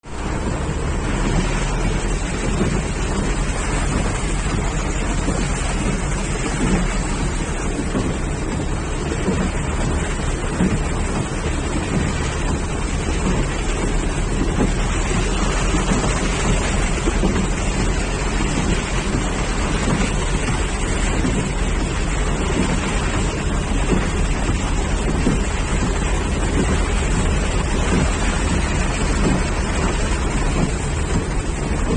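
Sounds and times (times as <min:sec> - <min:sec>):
heavy rain pouring: 0:00.0 - 0:31.9
wind rumbling on microphone: 0:00.0 - 0:31.9.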